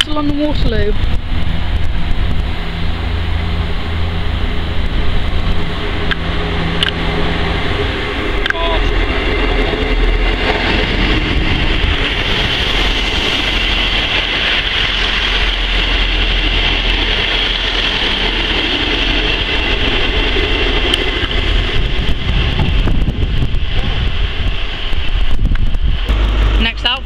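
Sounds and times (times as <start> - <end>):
train diesel engine drone: 0.0 - 27.0
wheels rolling on rails: 0.0 - 27.0.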